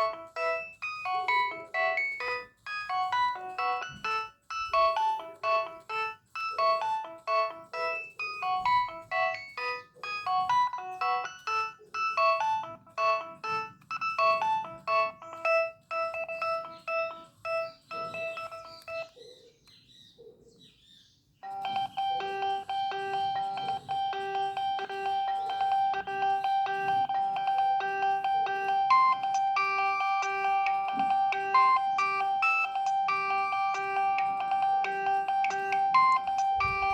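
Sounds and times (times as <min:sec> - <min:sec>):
electronic ringtone melody: 0:00.0 - 0:19.2, 0:21.4 - 0:36.9.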